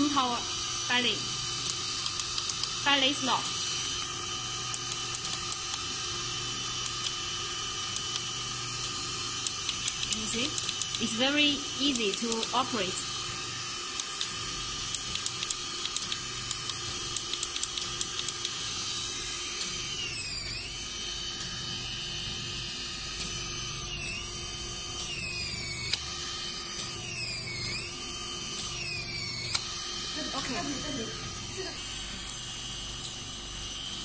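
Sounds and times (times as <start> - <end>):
machine motor hum and hiss: 0.0 - 34.0.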